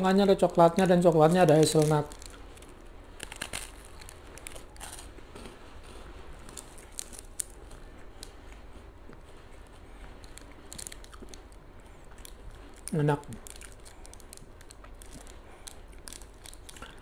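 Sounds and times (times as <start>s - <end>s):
sharp crackles: 0.4s - 8.5s, 9.7s - 17.0s
wafer crunching while chewed: 1.5s - 17.0s.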